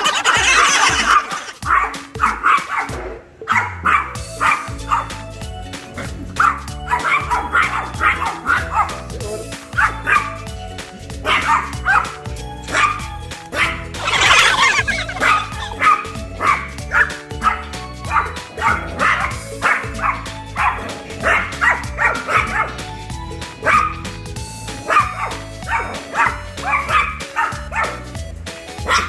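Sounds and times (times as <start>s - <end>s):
small dogs yapping: 0.0s - 5.3s, 5.9s - 9.0s, 9.6s - 10.6s, 11.2s - 24.1s, 24.8s - 28.2s, 28.8s - 29.0s
background music: 0.0s - 29.0s.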